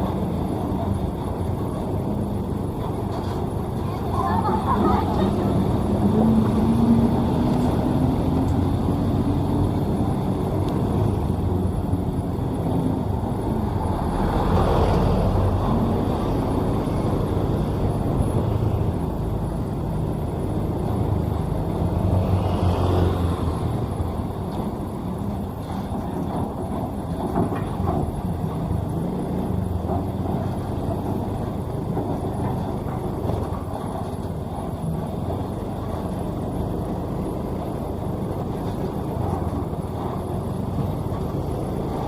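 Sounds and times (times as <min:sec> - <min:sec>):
paver diesel engine running: 0:00.0 - 0:42.0.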